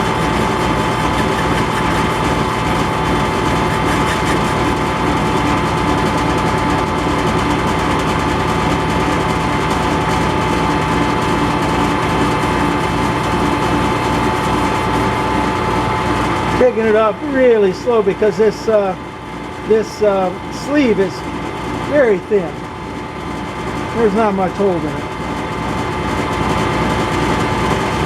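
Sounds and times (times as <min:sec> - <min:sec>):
metal lathe humming with high whine: 0:00.0 - 0:28.0.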